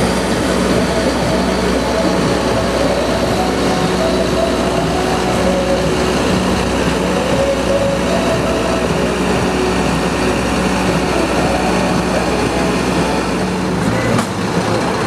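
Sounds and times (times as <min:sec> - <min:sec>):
wavering humming tone: 0:00.0 - 0:14.2
diesel truck engine running: 0:00.0 - 0:15.0.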